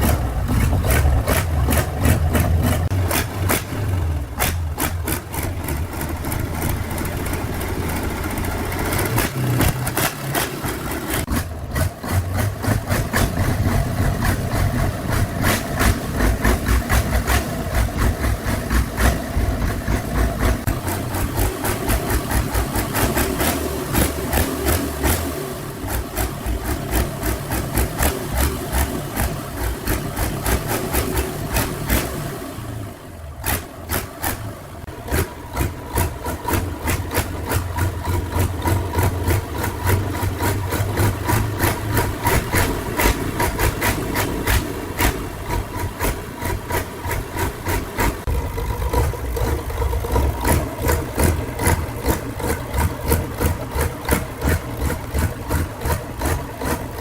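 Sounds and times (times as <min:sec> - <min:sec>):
engine idling with regular knock: 0:00.0 - 0:57.0.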